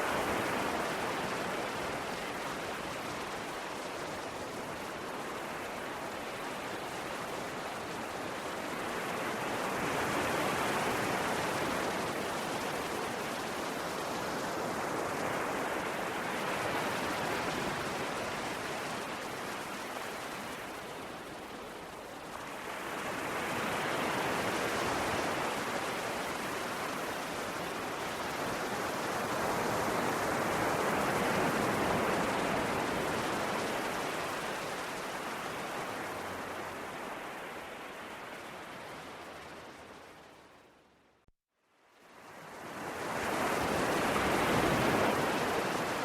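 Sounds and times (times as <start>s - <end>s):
ocean waves washing onto shore: 0.0s - 40.8s, 42.0s - 46.0s.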